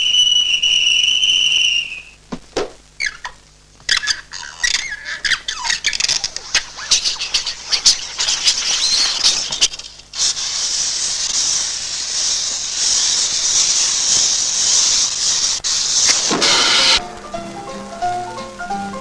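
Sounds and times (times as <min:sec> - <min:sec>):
fuse crackling and hissing: 0:00.0 - 0:19.0.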